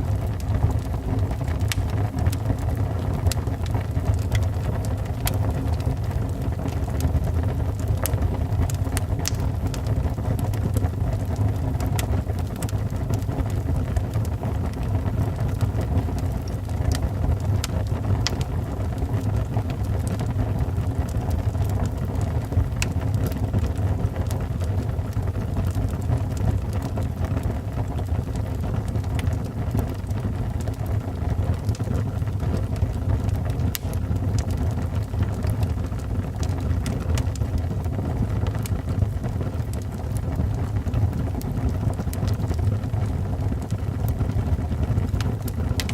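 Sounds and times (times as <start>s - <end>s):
fire flames rumbling: 0.0s - 45.9s
wood crackling and popping: 0.0s - 45.9s.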